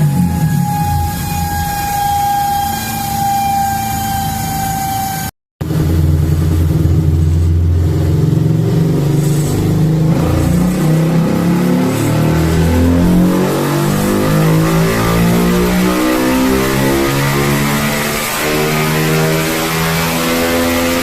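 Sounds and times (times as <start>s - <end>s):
motorcycle engine revs climbing: 0.0s - 21.0s.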